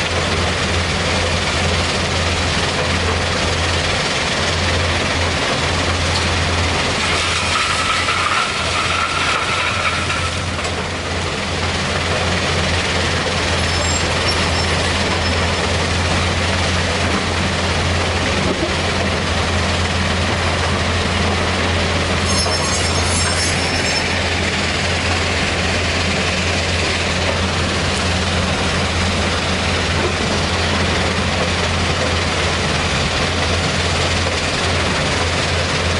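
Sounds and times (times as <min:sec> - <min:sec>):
diesel engine drone: 0:00.0 - 0:35.9
machinery whine: 0:00.1 - 0:35.9.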